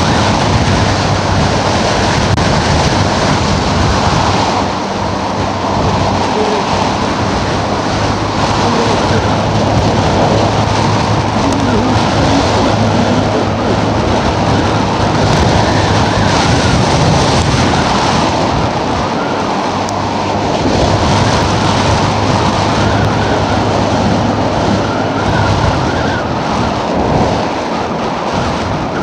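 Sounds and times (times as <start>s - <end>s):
vehicle engine droning: 0.0s - 29.0s
wind rushing over microphone: 0.0s - 29.0s.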